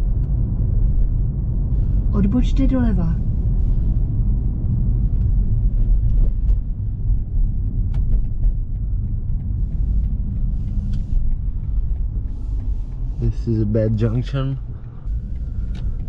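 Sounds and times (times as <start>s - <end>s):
car engine low rumble: 0.0s - 16.0s
road noise: 0.0s - 16.0s.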